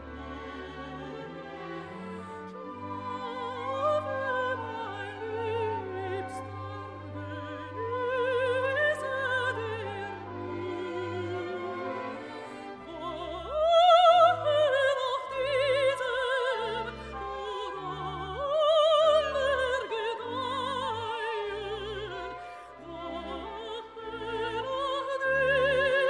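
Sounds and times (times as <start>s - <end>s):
operatic singing with vibrato: 0.0s - 26.0s
orchestral accompaniment: 0.0s - 26.0s.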